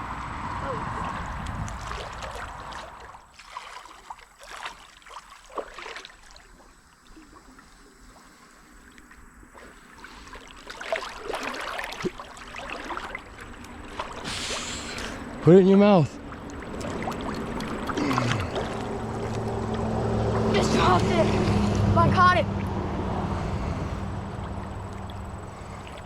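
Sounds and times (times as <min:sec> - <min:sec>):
creek water splashing: 0:00.0 - 0:26.0.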